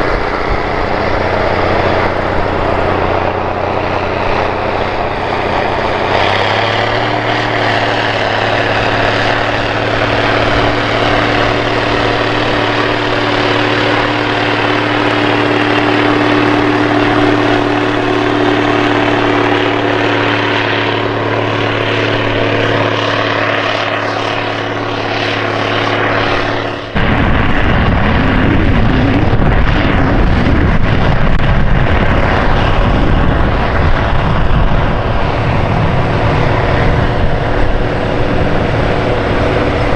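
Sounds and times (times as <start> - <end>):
diesel tractor engine under load: 0.0 - 39.9
low wavering rumble: 0.0 - 39.9.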